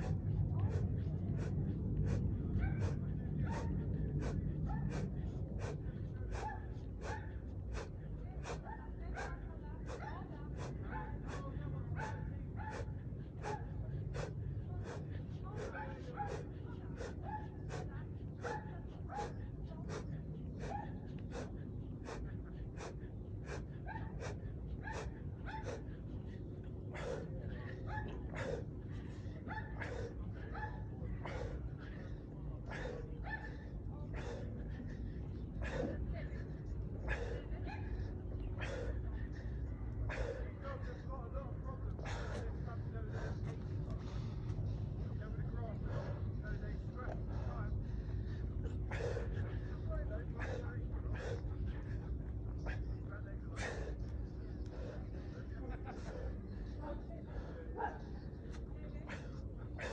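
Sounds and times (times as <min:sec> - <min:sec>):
man breathing sharply: 0:00.0 - 0:10.0, 0:10.6 - 0:52.9, 0:53.5 - 0:59.9
low rumble: 0:00.0 - 0:59.9.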